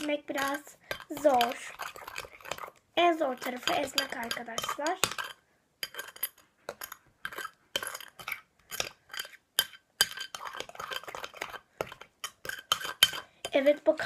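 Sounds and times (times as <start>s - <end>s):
metal spoon scraping glass bowl: 0.4s - 13.7s.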